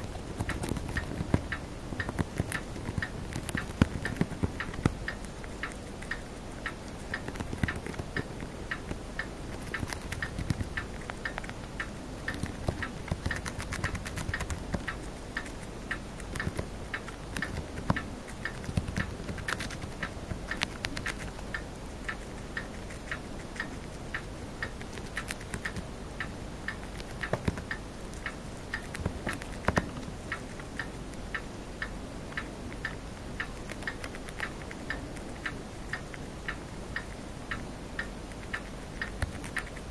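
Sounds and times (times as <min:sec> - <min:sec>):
hamster crunching leaf: 0:00.0 - 0:25.9, 0:26.7 - 0:31.4, 0:32.7 - 0:36.3, 0:36.9 - 0:39.9.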